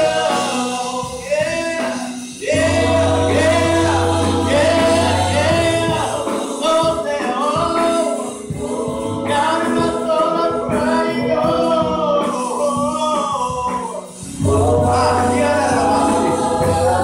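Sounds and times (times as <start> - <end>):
gospel choir singing: 0.0 - 17.0
sustained keyboard chords: 0.0 - 17.0.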